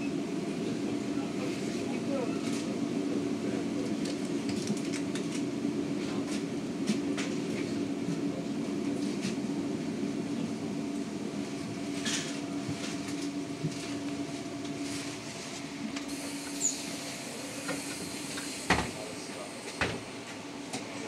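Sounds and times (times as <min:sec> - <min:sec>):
trolleybus interior hum: 0:00.0 - 0:21.0.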